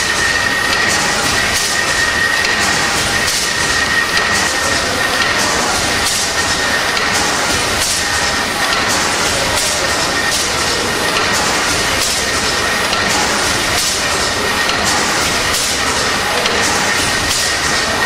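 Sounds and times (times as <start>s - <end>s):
steam engine clatter: 0.0s - 18.0s.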